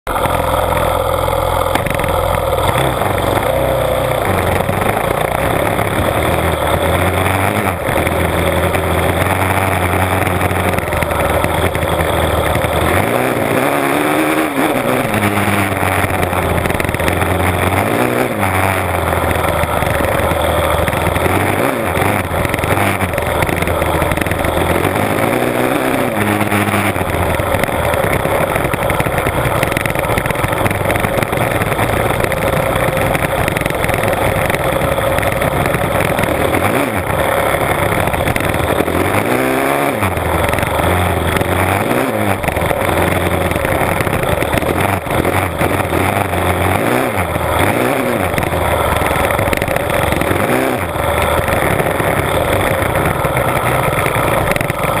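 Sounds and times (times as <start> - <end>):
dirt bike engine revving: 0.1 - 55.0
wind and track noise: 1.7 - 55.0.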